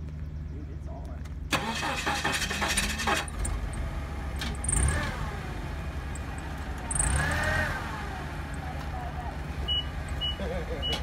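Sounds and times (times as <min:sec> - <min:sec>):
forklift engine revving: 0:01.5 - 0:11.0.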